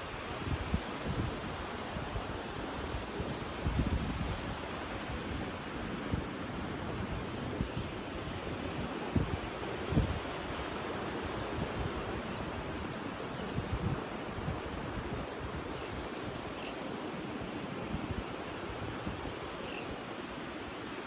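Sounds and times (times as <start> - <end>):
sea surf washing on beach: 0.0 - 21.0
wind: 0.0 - 21.0.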